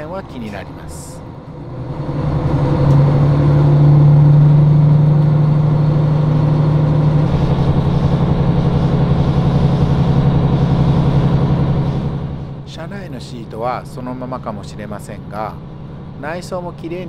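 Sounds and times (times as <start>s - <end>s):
diesel railcar engine droning: 0.0s - 17.0s.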